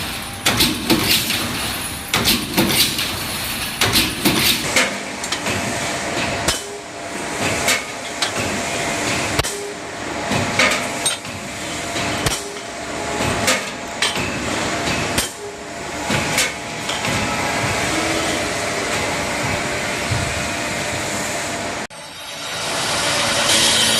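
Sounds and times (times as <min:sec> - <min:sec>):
machine running noise: 0:00.0 - 0:23.9.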